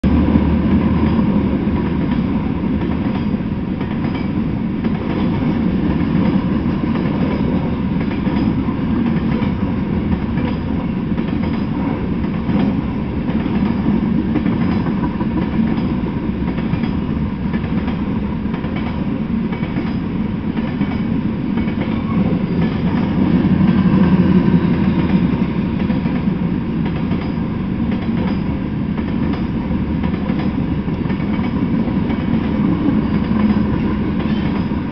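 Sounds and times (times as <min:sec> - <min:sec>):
train wheels on rails: 0:00.0 - 0:34.9.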